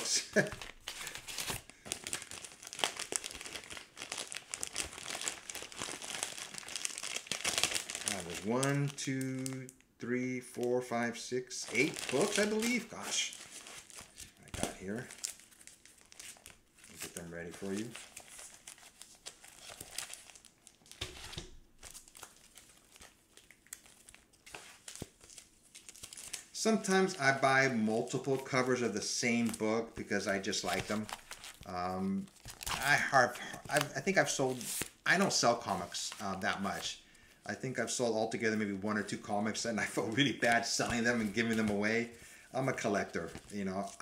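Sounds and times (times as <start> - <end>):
packing material crinkling: 0.0 - 9.7, 11.6 - 37.1, 37.8 - 44.0.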